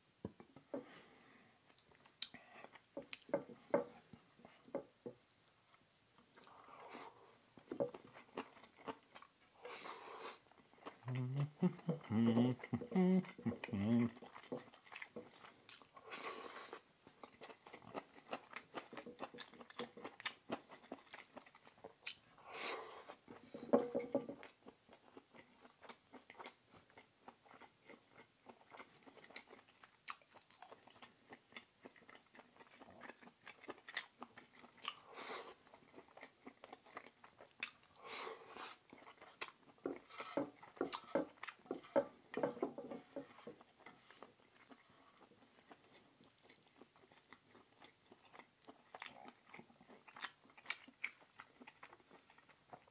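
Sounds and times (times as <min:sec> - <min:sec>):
person chewing food: 0:00.3 - 0:52.9.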